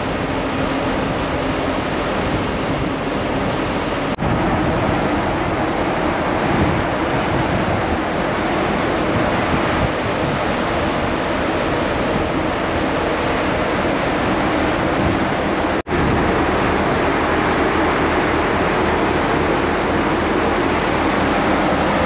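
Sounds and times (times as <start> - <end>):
sea washing past a ferry: 0.0 - 22.0
strong wind on microphone: 0.0 - 22.0.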